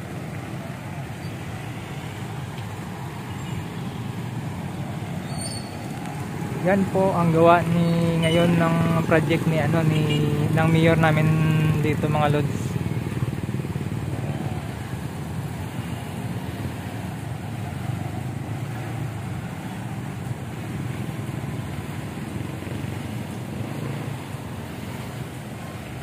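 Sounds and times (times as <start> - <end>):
road and wind noise: 0.0 - 26.0.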